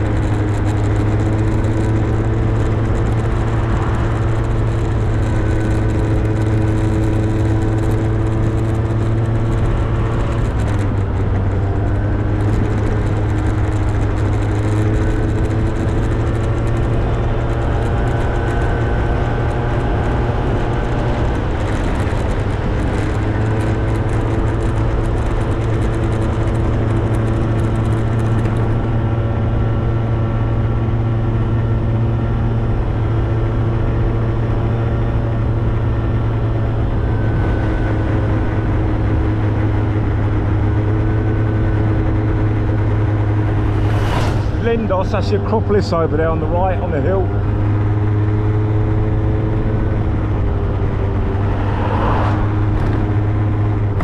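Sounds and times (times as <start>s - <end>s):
motorbike engine running: 0.0s - 54.0s
road noise: 0.0s - 54.0s
wind noise: 0.0s - 54.0s.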